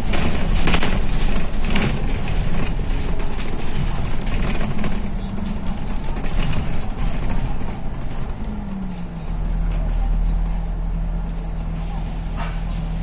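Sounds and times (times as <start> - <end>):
bus engine and road hum: 0.0 - 13.0
rattles and knocks in bus cabin: 0.0 - 13.0.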